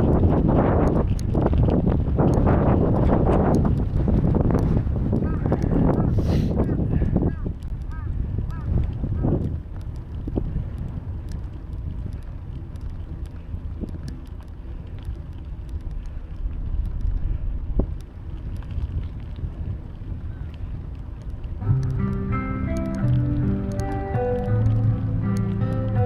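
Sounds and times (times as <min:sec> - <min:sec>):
faint clicks: 0:00.0 - 0:26.0
wind buffeting microphone: 0:00.0 - 0:26.0.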